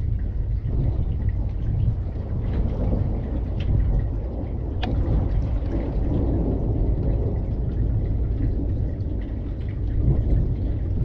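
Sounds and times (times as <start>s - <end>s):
low thunder rumble: 0.0s - 11.0s.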